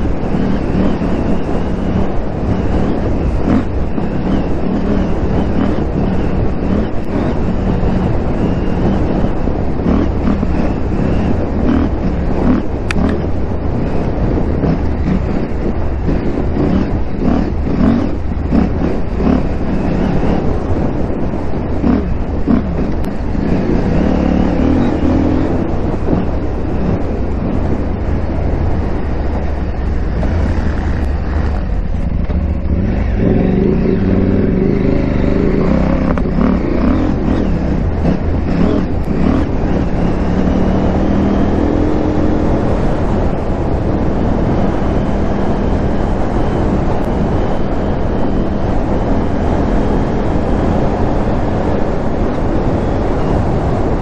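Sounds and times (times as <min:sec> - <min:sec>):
motorcycle engine revving: 0:00.0 - 0:54.0
tyre and wind rumble: 0:00.0 - 0:54.0.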